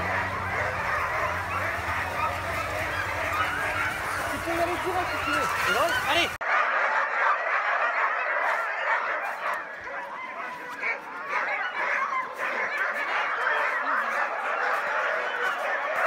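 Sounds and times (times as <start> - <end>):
dogs barking and yelping: 0.0 - 16.0.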